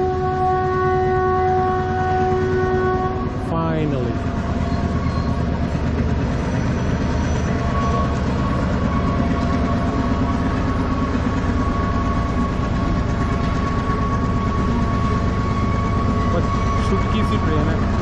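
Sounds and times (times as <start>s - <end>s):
locomotive engine rumbling: 0.0s - 18.0s.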